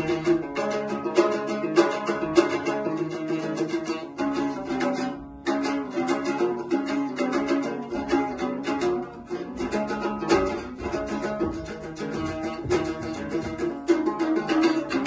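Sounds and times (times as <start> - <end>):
lute strummed in fast folk tune: 0.0 - 15.0.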